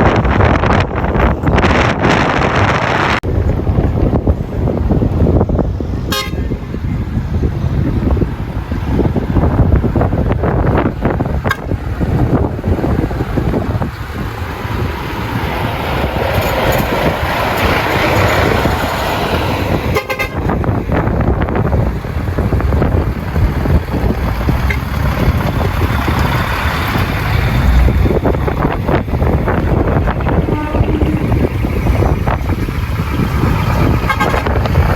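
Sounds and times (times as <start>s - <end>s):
diesel trucks driving past: 0.0s - 34.9s.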